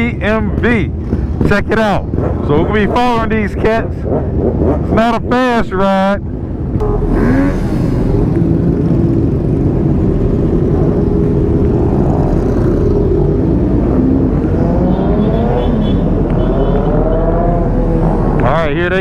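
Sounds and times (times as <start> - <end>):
motorcycles revving: 0.0 - 19.0.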